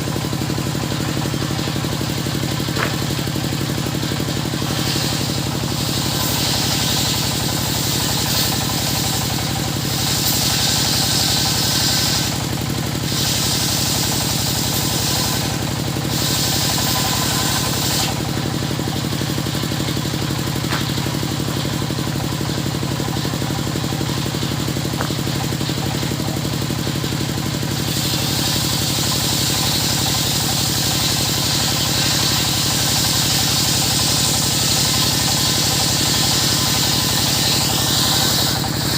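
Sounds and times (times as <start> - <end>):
circular saw engine drone: 0.0 - 38.9
saw blade cutting wood hiss: 0.2 - 21.7, 27.2 - 38.9.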